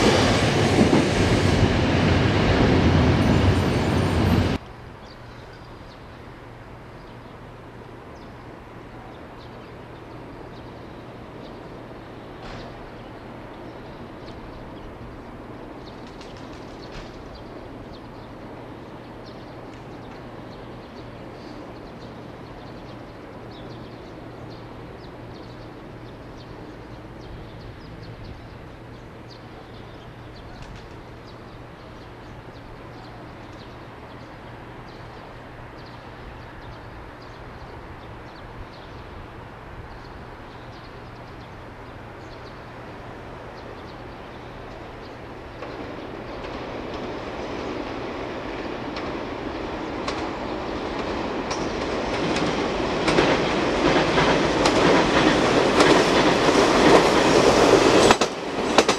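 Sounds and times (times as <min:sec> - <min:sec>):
distant freight train rumble: 0:00.0 - 0:58.9
small birds chirping: 0:07.0 - 0:58.9.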